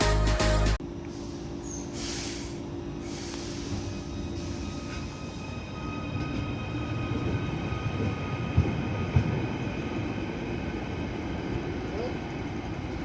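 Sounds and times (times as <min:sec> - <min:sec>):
train low rumble: 0:00.0 - 0:13.0
passenger train electric whine: 0:00.8 - 0:13.0.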